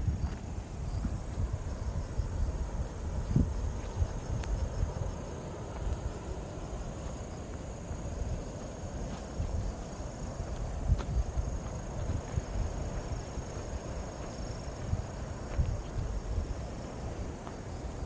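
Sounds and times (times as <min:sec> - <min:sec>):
insects trilling: 0:00.0 - 0:18.0
low gusty rumble: 0:00.0 - 0:18.0.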